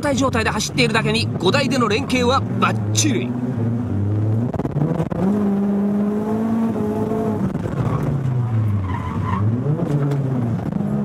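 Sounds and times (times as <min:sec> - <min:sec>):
car engine from inside: 0:00.0 - 0:11.0.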